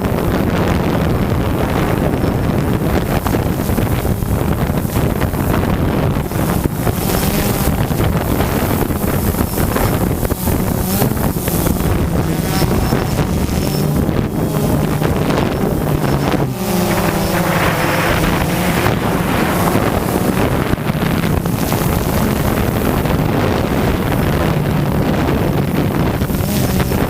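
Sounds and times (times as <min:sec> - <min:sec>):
drone propellers humming: 0:00.0 - 0:27.0
wind noise on microphone: 0:00.0 - 0:27.0.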